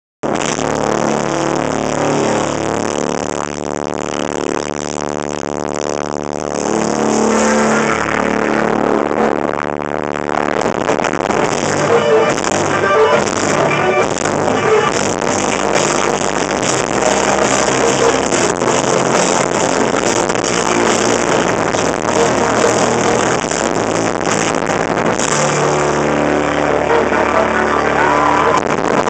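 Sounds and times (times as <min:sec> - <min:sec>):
distorted electric guitar chords: 0:00.2 - 0:29.0.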